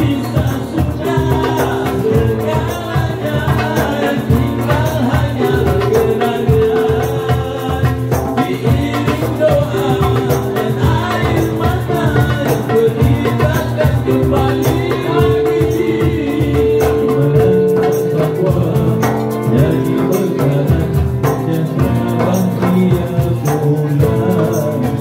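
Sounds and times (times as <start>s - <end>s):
hand drums rhythm: 0.0s - 25.0s
keyboard chords: 0.0s - 25.0s
men singing: 0.0s - 25.0s.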